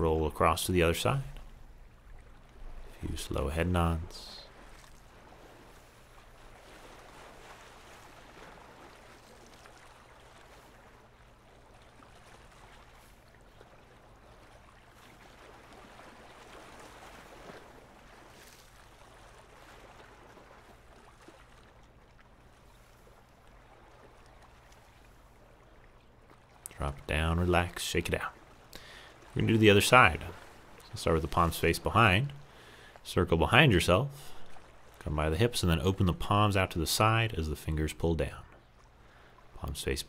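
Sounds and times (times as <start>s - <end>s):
small waves lapping on rocks: 0.0s - 40.0s.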